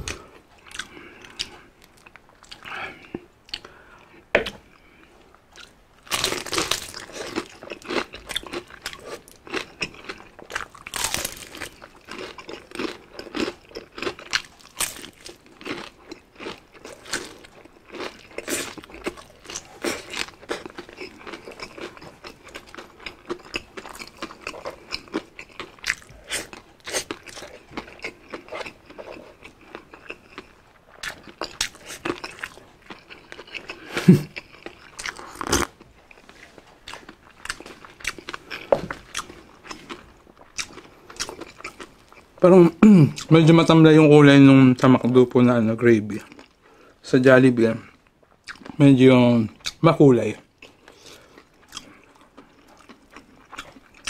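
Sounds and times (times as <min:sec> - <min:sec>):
crunchy chewing of fried chicken: 0:00.0 - 0:42.4, 0:46.1 - 0:47.0, 0:47.8 - 0:48.8, 0:49.5 - 0:54.0.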